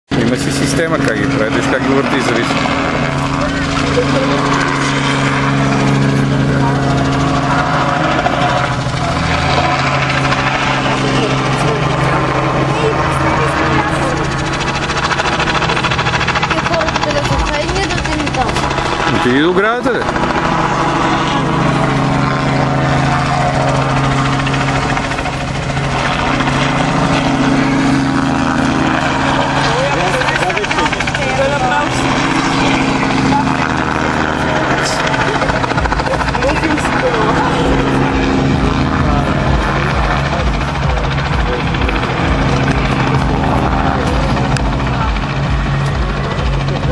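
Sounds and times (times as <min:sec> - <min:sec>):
helicopter flying overhead: 0:00.1 - 0:46.9.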